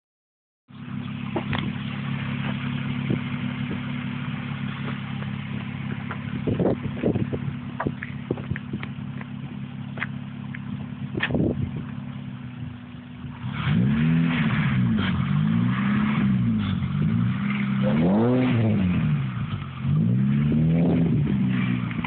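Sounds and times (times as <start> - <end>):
car engine idling: 0.7 - 22.0.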